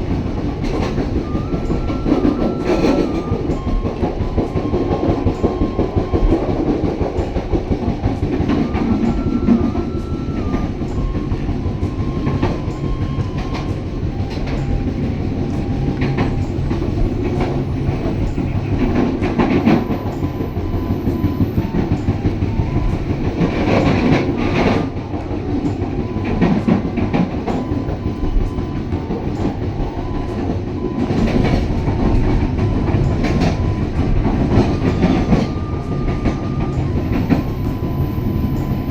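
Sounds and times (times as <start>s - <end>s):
train rumbling: 0.0s - 38.9s
wheels clacking over rail joints: 0.0s - 38.9s.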